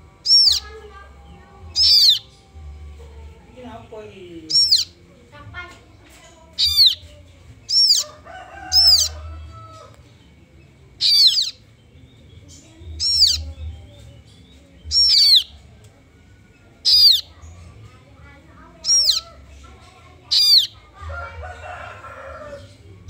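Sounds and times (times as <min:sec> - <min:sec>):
nestlings chirping: 0:00.0 - 0:23.0.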